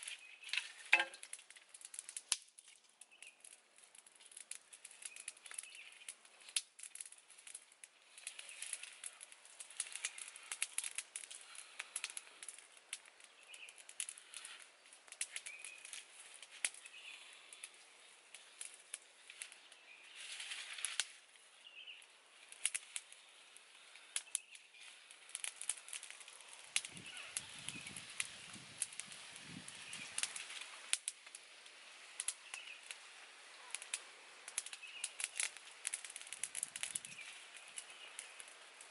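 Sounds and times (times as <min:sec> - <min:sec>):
dry twigs and leaves rustling: 0:00.0 - 0:38.9
wood fire crackling and popping: 0:00.0 - 0:38.9.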